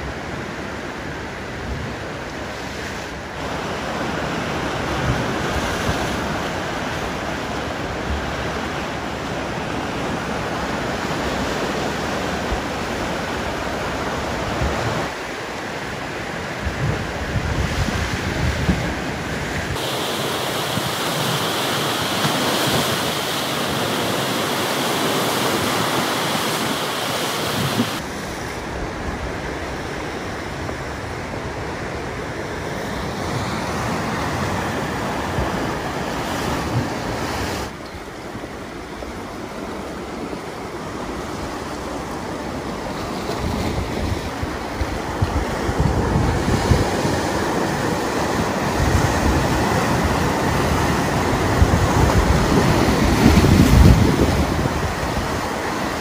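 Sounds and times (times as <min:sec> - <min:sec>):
ocean surf breaking on rocks: 0:00.0 - 0:56.0.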